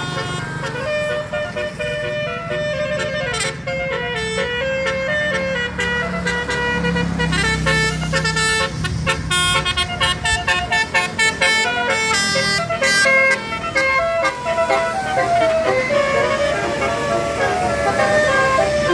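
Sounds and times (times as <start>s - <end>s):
musical horn playing melody: 0.0s - 18.9s.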